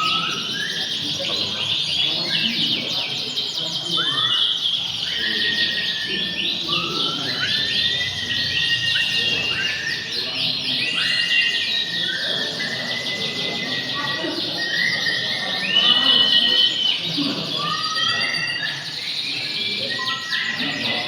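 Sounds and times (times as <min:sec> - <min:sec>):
canaries singing trills: 0:00.0 - 0:21.0.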